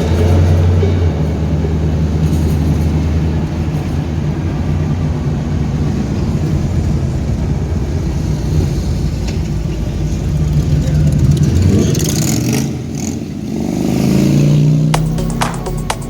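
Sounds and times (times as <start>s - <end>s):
car engine droning while driving: 0.0s - 16.0s.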